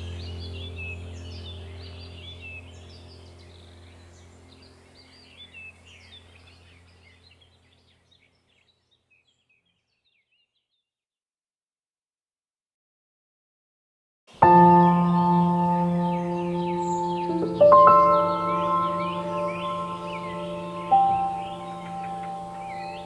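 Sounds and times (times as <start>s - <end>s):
birds chirping: 0.0s - 10.6s, 14.4s - 23.0s.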